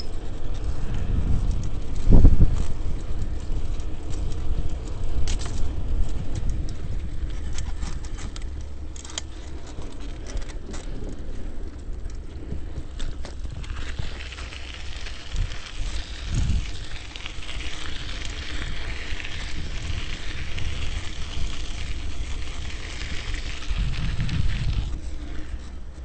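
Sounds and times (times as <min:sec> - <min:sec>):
wind on microphone: 0:00.0 - 0:08.2, 0:12.3 - 0:25.6
bicycle tyre noise: 0:00.0 - 0:26.0
bike rattling clicks: 0:00.0 - 0:26.0.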